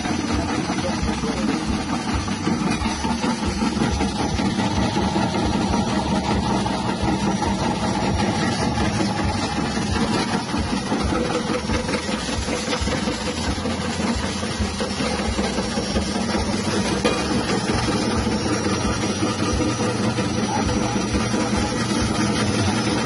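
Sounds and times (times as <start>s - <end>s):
slicing machine motor running: 0.0s - 23.0s.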